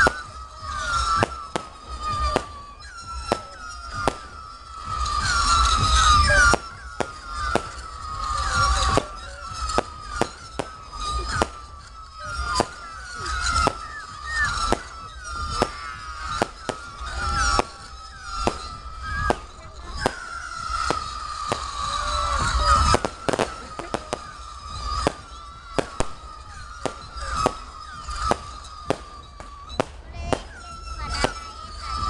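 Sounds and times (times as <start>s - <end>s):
fireworks bangs: 0.0s - 32.0s
fireworks whistling: 0.0s - 32.0s.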